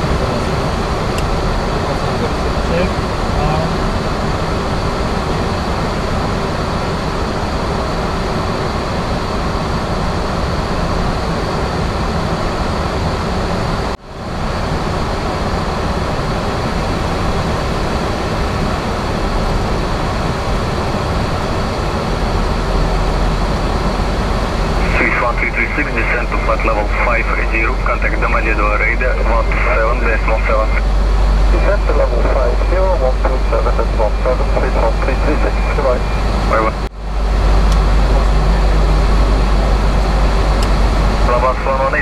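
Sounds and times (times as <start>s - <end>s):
aircraft cockpit roar: 0.0s - 42.0s.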